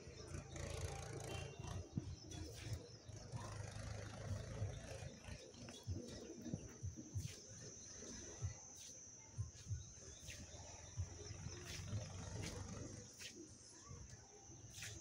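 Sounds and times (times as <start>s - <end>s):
steady high-pitched hum: 0.0s - 15.0s.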